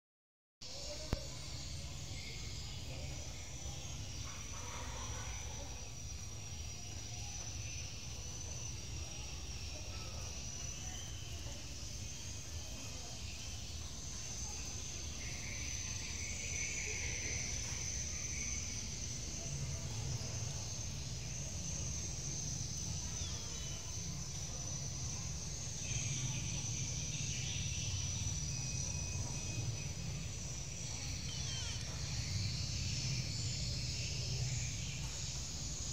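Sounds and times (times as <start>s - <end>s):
high-pitched insect drone: 0.6s - 35.9s.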